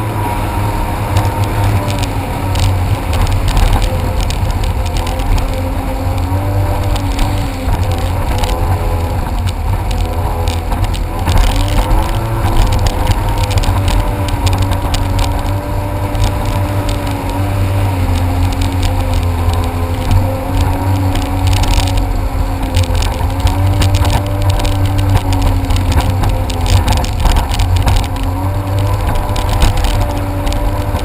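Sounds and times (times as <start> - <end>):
heavy low rumble: 0.0 - 31.0
jet ski engine running: 0.0 - 31.0.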